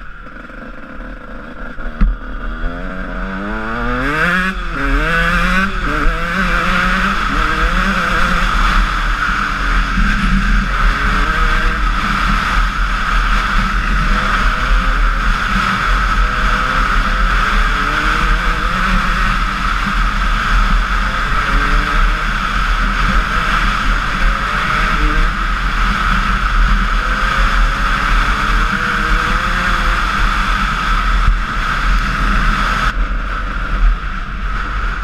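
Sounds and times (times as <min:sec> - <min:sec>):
motocross engine revving: 0:00.0 - 0:33.9.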